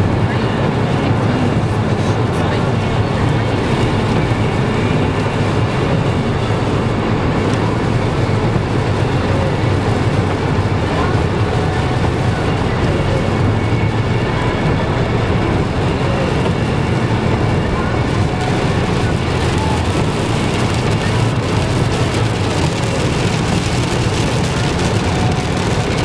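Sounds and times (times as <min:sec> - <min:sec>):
car road noise rumble: 0:00.0 - 0:26.0.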